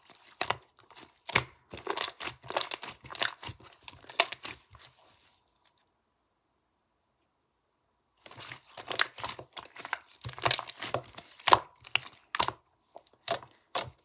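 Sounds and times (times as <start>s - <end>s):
crinkling and crackling: 0.0s - 5.9s, 8.2s - 14.0s.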